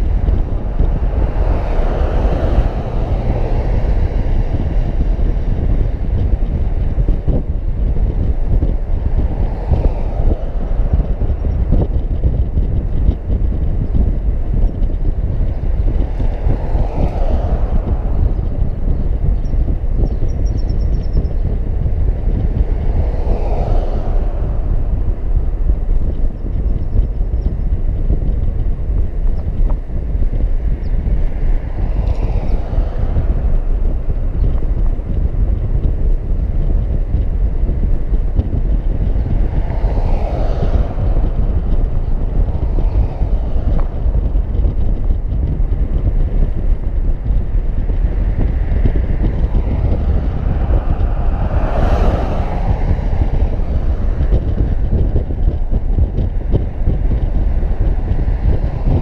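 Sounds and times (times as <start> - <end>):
road noise: 0.0 - 59.0
vehicles swishing past: 0.0 - 59.0
wind rumbling on microphone: 0.0 - 59.0.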